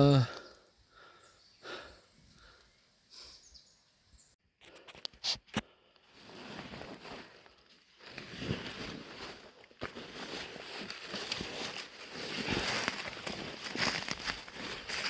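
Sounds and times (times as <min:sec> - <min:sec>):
faint outdoor rustling: 0:00.4 - 0:15.0.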